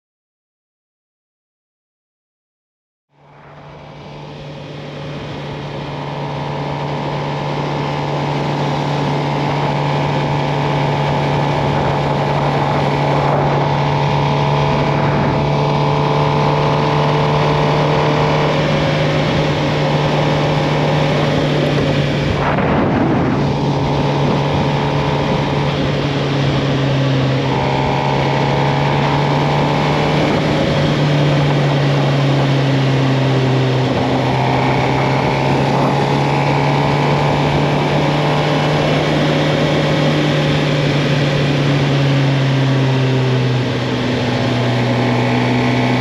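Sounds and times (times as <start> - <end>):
motorcycle engine cruising: 3.1 - 46.0.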